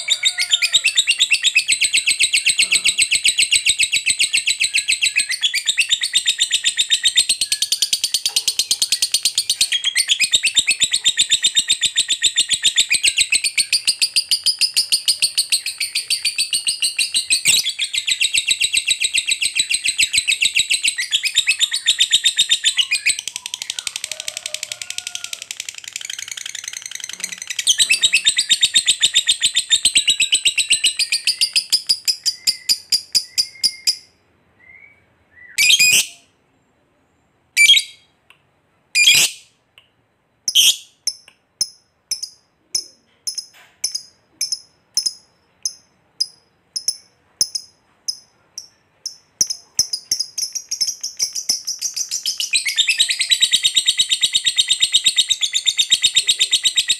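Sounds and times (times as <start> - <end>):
lovebird chattering shrill chirps: 0.0 - 34.1, 35.6 - 36.2, 37.6 - 38.0, 39.0 - 39.5, 40.5 - 56.9.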